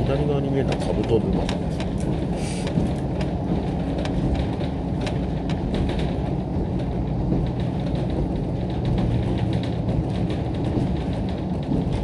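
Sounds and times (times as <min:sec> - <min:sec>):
train engine and wheels rumbling: 0:00.0 - 0:12.0.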